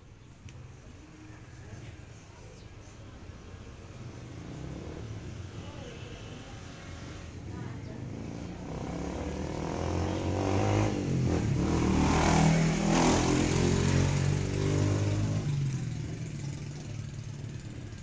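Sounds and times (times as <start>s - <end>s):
vehicle engine passing by: 2.9s - 18.0s.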